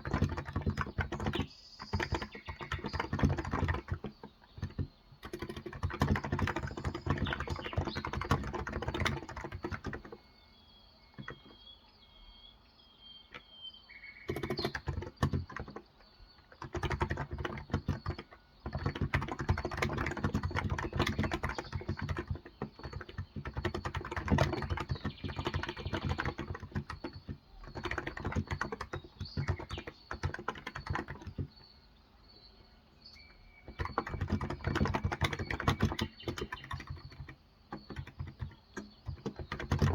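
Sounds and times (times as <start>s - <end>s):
keyboard typing: 0.0s - 10.3s, 11.1s - 11.7s, 14.2s - 31.7s, 33.1s - 39.9s
faint birds chirping: 0.0s - 39.9s.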